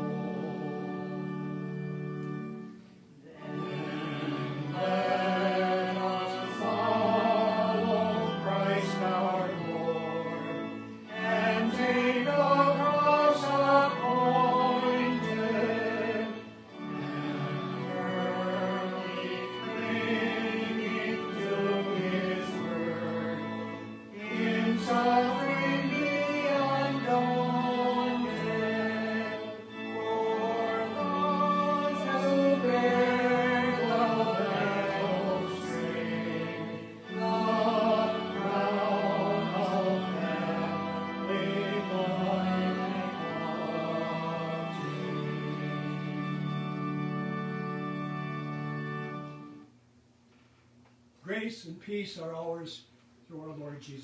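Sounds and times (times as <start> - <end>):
choir singing a hymn: 0.0 - 49.6.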